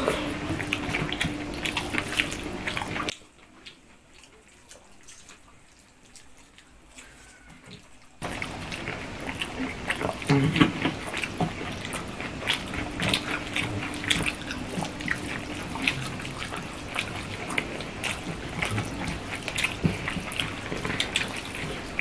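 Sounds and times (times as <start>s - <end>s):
chewing with lips smacking: 0.0s - 22.0s
fingers mashing food: 0.0s - 22.0s.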